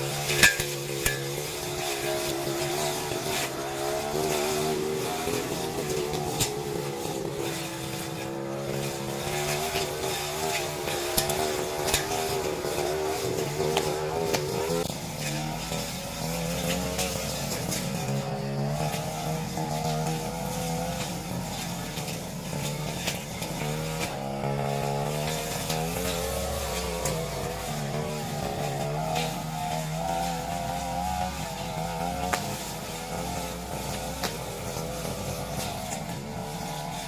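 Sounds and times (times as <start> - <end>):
brush cutter engine under load: 0.0 - 37.0.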